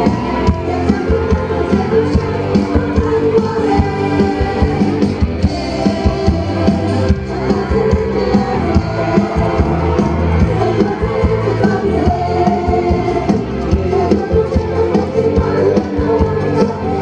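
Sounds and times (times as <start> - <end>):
steady drum beat: 0.0 - 16.4
live band playing: 0.0 - 17.0.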